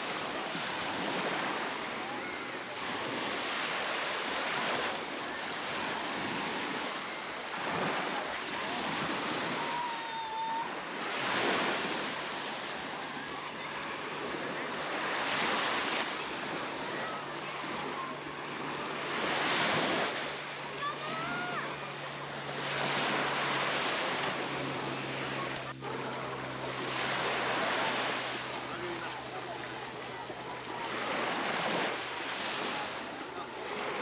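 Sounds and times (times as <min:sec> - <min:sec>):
sea waves washing onto beach: 0:00.0 - 0:34.0.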